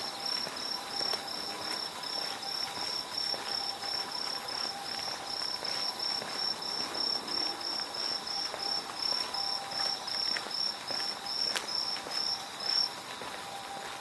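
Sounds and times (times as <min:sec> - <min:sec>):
cricket chirping: 0:00.0 - 0:14.0
insects trilling: 0:00.0 - 0:14.0.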